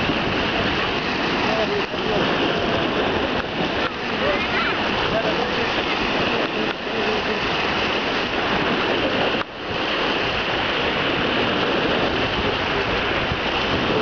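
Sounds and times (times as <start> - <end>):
lake waves splashing: 0.0 - 14.0.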